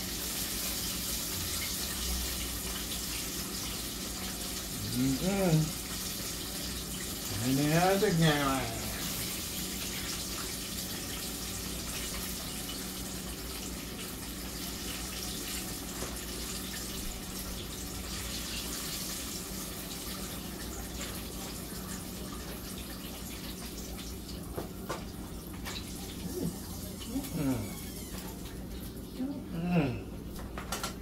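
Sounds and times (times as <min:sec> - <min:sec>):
wings sizzling in hot oil: 0:00.0 - 0:29.0.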